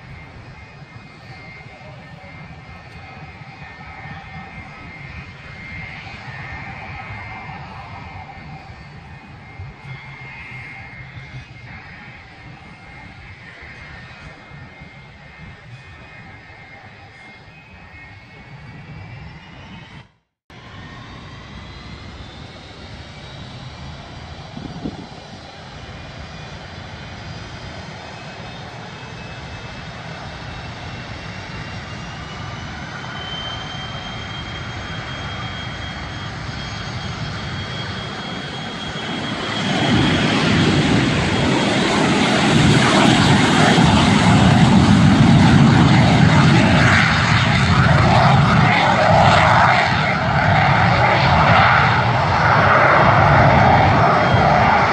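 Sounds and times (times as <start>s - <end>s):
jet engine whine and roar: 0.0s - 54.9s.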